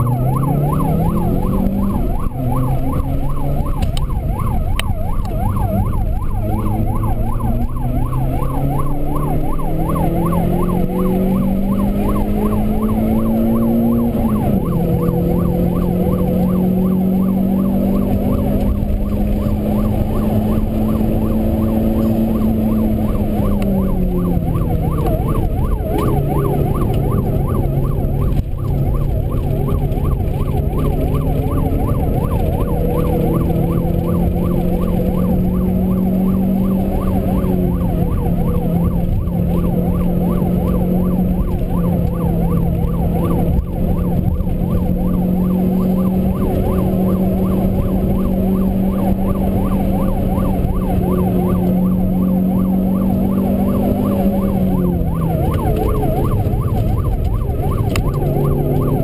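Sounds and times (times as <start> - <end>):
car engine revving in cabin: 0.0 - 59.0.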